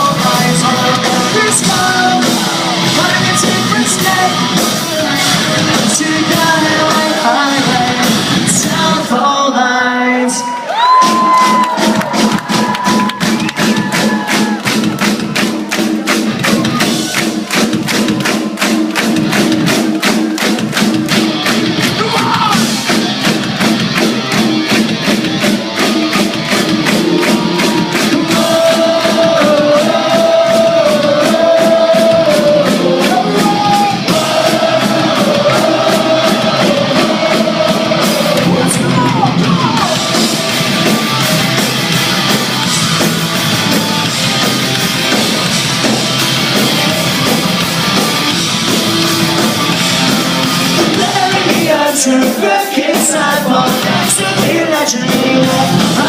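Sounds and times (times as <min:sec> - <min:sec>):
fast drumbeat: 0:00.0 - 0:09.2, 0:10.8 - 0:56.0
melodic guitar lead line: 0:00.0 - 0:10.4, 0:20.7 - 0:56.0
pop-punk band playing: 0:00.0 - 0:56.0.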